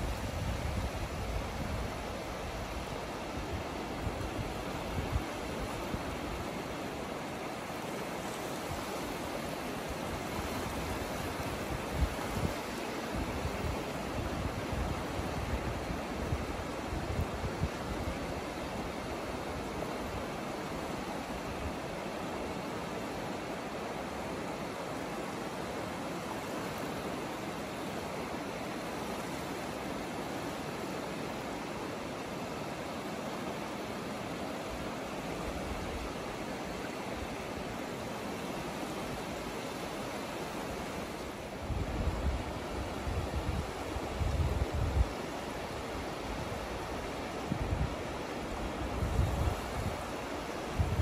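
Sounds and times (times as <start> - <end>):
small waves washing on shore: 0.0 - 51.0.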